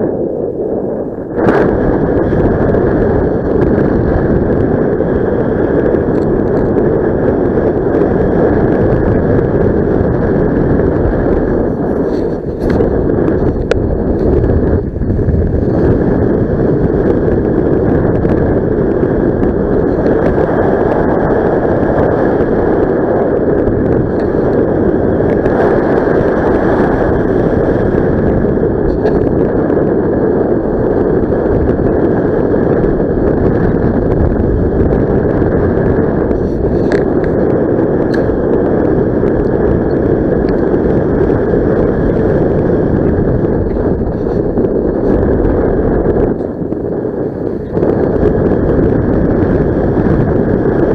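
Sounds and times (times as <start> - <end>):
wind buffeting the microphone: 0.0 - 50.9.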